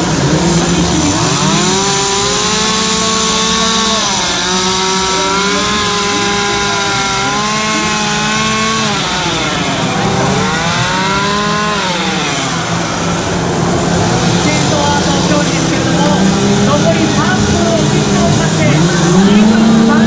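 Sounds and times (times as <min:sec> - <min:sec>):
chainsaw running at high speed: 0:00.0 - 0:20.0
second chainsaw steady note: 0:00.0 - 0:20.0.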